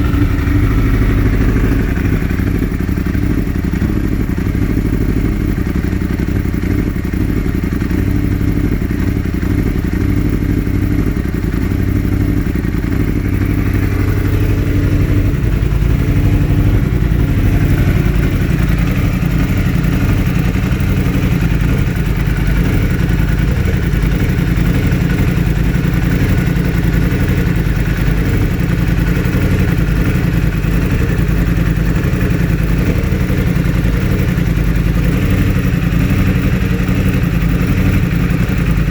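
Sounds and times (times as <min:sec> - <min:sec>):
motorcycle engine misfiring: 0:00.0 - 0:38.9.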